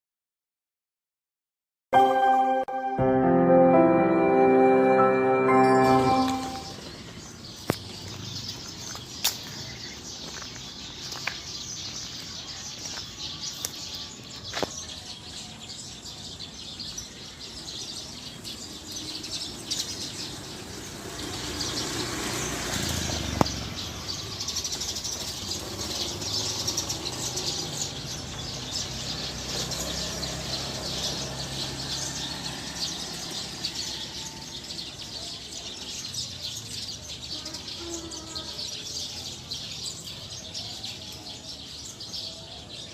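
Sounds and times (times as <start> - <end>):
flock of sparrows chirping: 6.2 - 42.9.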